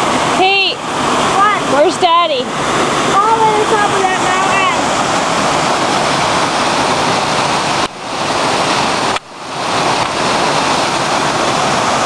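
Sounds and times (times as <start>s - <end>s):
waterfall: 0.0s - 12.0s.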